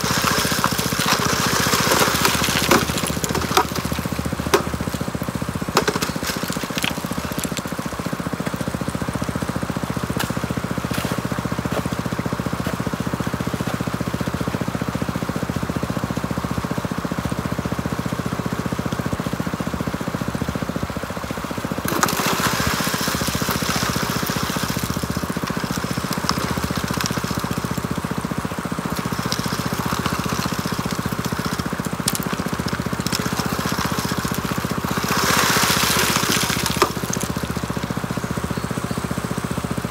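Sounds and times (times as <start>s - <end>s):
water washing through sluice: 0.0s - 38.5s
small gasoline engine running: 0.0s - 39.9s.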